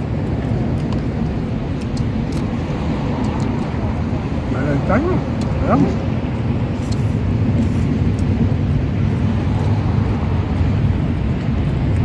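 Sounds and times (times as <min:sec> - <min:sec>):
low rumble of outdoor noise: 0:00.0 - 0:12.0.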